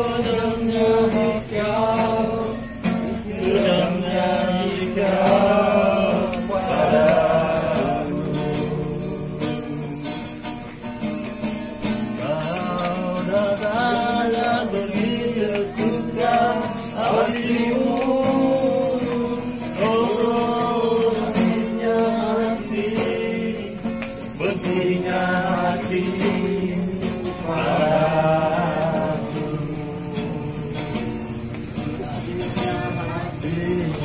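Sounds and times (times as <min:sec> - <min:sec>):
acoustic guitar: 0:00.0 - 0:34.0
people singing: 0:00.0 - 0:34.0.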